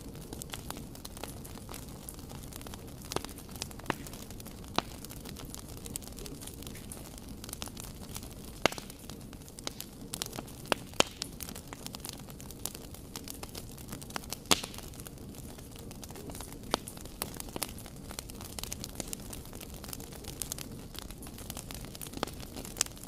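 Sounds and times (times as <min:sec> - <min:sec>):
flames burning: 0:00.0 - 0:23.0
logs crackling and popping: 0:00.0 - 0:23.0.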